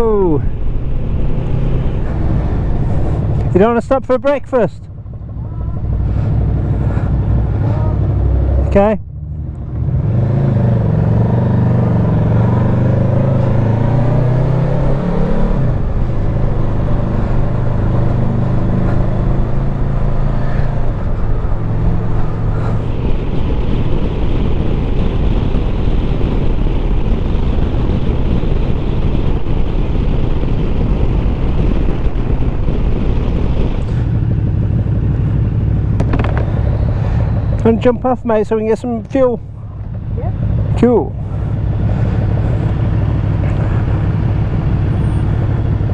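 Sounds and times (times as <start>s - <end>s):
wind noise: 0.0s - 3.7s, 5.0s - 45.9s
motorcycle engine: 0.0s - 45.9s.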